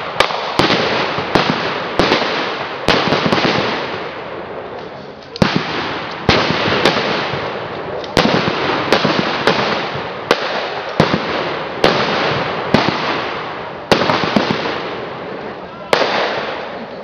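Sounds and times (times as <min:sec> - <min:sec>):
rifle shots echoing: 0:00.0 - 0:04.5, 0:05.4 - 0:15.3, 0:15.9 - 0:16.8.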